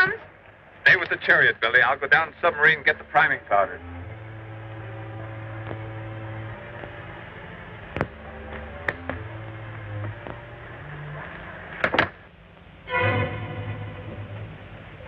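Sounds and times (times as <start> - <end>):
film soundtrack low hum: 0.0 - 15.0.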